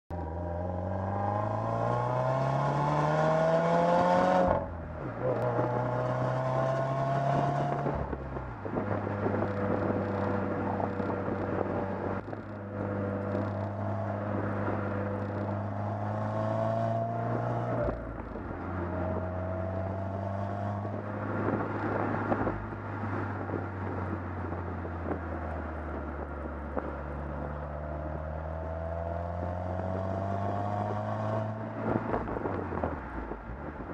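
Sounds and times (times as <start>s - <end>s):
car exhaust revving: 0.2s - 33.9s.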